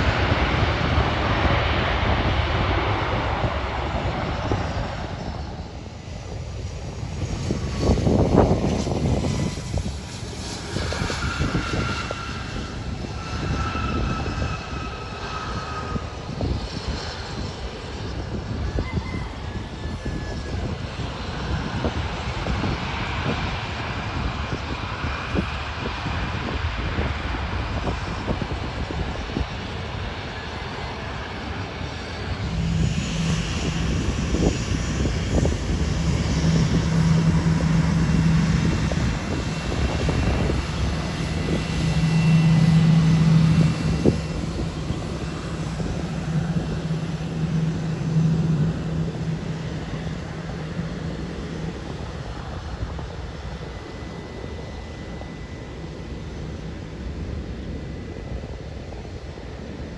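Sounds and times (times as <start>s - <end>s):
steady low drone: 0.0s - 18.6s, 19.2s - 59.9s
aircraft engine rumble: 0.0s - 59.9s.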